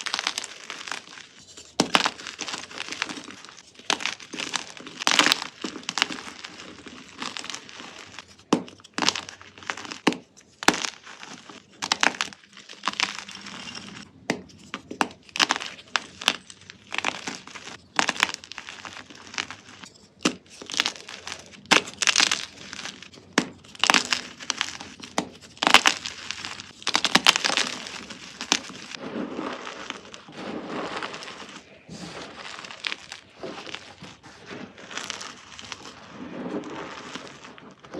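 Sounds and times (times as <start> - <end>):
brittle material crunching: 0.0 - 37.9.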